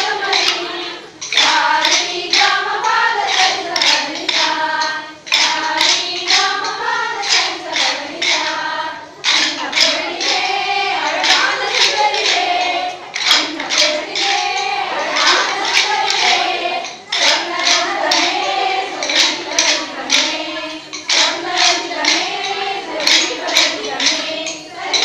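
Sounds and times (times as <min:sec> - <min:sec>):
group of voices singing: 0:00.0 - 0:25.0
hand claps: 0:00.0 - 0:25.0.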